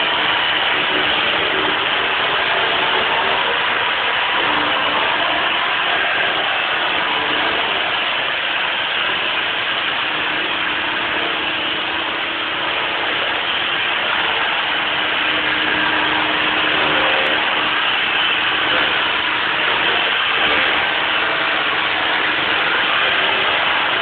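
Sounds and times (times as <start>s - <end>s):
sanding machine running: 0.0s - 24.0s.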